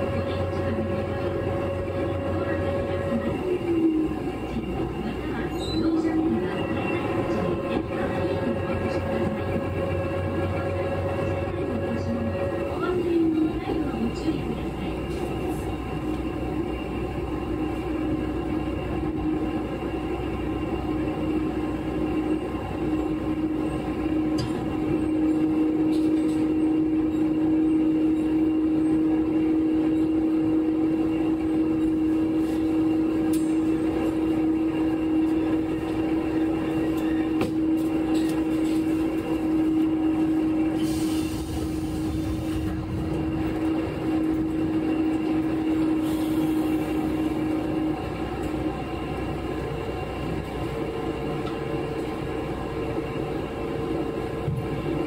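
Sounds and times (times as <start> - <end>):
railcar engine hum: 0.0 - 55.0
wheel and rail rumble: 0.0 - 55.0.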